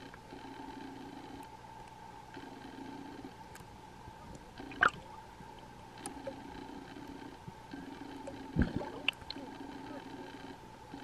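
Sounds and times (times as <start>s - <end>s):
faint steady underwater tone: 0.0s - 11.0s
low hum: 0.0s - 11.0s.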